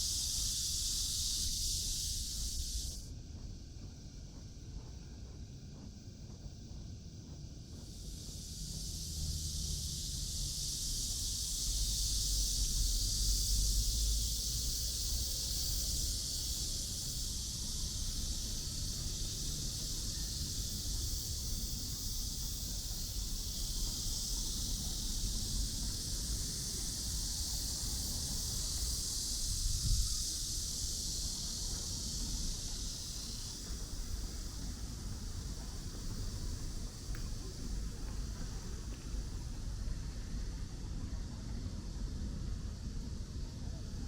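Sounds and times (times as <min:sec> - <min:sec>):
high-pitched hiss: 0:00.0 - 0:44.0.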